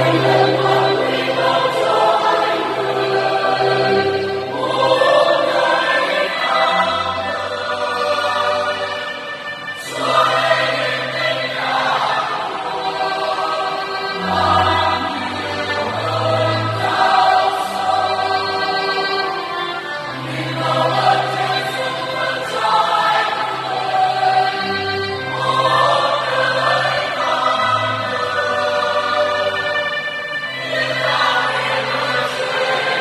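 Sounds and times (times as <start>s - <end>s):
mixed choir singing a hymn: 0.0s - 33.0s.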